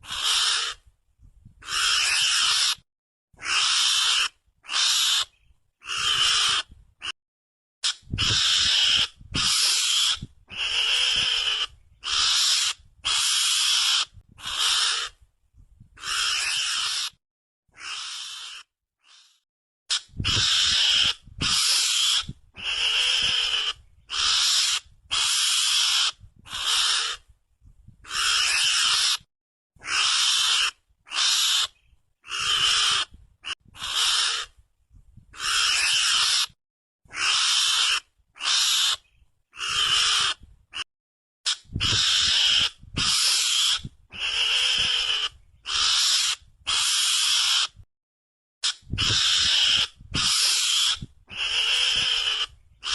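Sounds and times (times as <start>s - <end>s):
harsh hissy animal calls: 0.0s - 0.8s, 1.7s - 2.8s, 3.4s - 6.7s, 7.8s - 15.2s, 16.0s - 17.2s, 17.8s - 27.2s, 28.1s - 29.2s, 29.8s - 31.7s, 32.3s - 34.5s, 35.4s - 36.5s, 37.1s - 39.0s, 39.6s - 40.4s, 41.5s - 47.8s, 48.6s - 52.9s.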